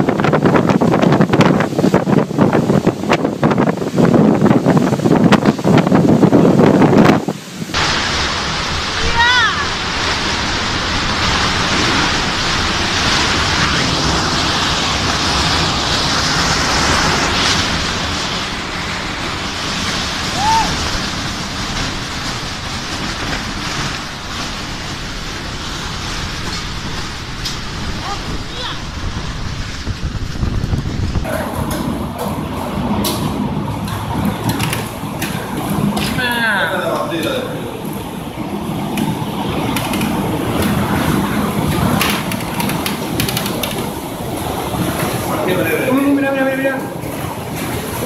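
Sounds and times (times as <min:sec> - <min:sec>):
tornado wind rushing: 0:00.0 - 0:48.0.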